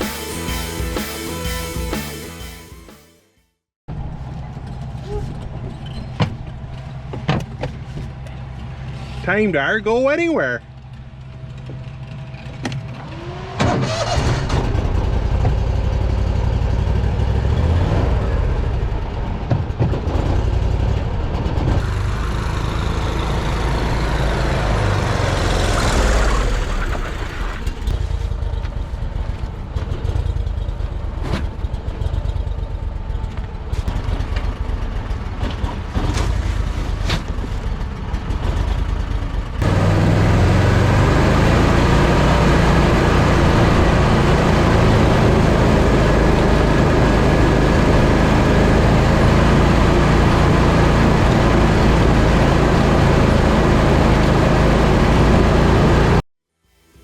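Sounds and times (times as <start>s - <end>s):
engine running with deep sound: 3.9s - 57.0s.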